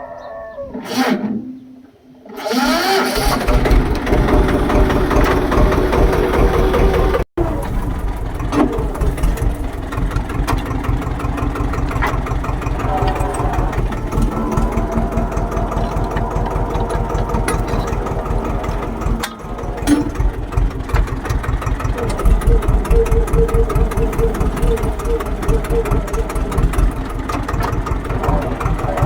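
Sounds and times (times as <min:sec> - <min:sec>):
tractor engine running: 0:02.3 - 0:29.0.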